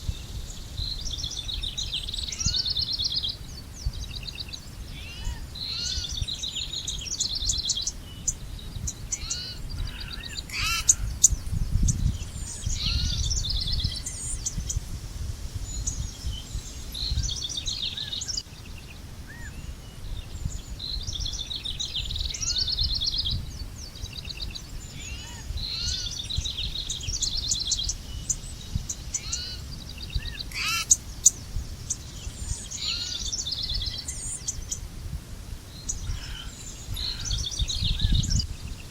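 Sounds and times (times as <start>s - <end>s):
songbirds singing and trilling: 0.0s - 38.9s.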